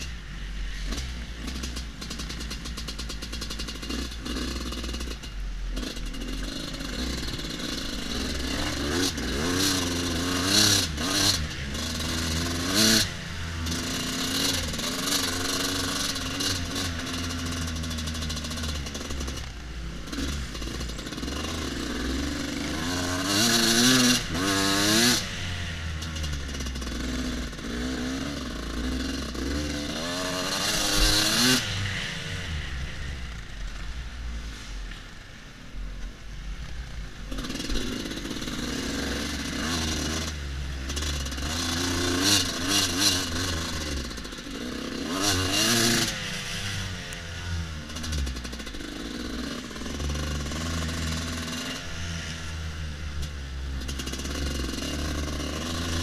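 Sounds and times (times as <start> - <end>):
motorbike engine revving: 0.0 - 34.0, 37.2 - 56.0.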